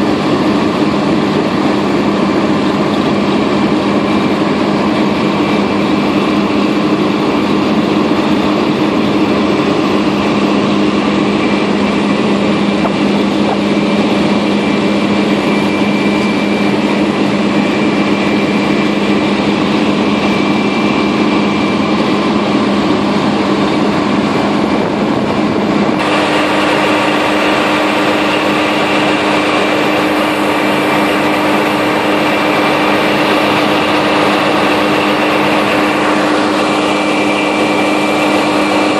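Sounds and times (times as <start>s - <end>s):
drilling rig machinery humming: 0.0s - 38.9s.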